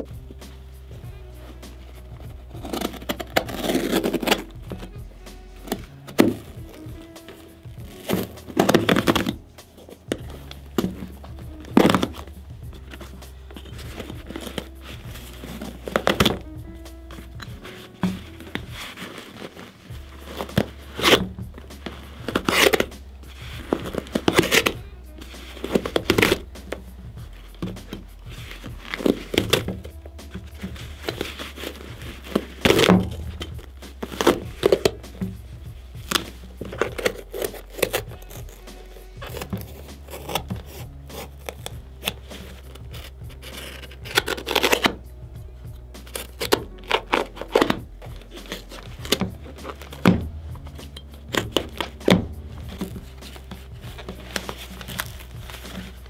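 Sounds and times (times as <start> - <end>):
background music: 0.0 - 56.0
laces pulled through eyelets: 0.0 - 56.0
knife cutting leather: 1.6 - 45.0, 46.0 - 56.0.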